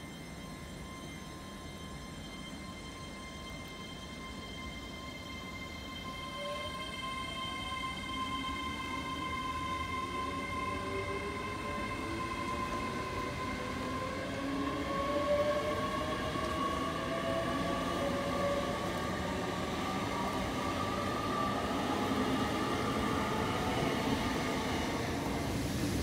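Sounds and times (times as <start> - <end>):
train electric whine rising: 0.0 - 26.0.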